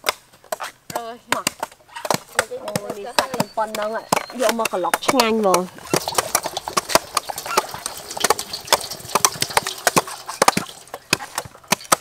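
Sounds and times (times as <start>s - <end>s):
sharp clicks and knocks: 1.4s - 12.0s.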